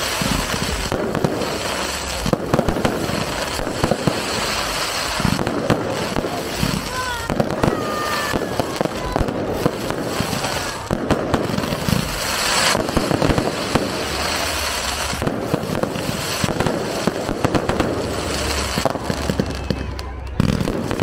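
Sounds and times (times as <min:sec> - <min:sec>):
fireworks crackling and popping: 0:00.0 - 0:21.0
sharp firework reports: 0:00.0 - 0:21.0.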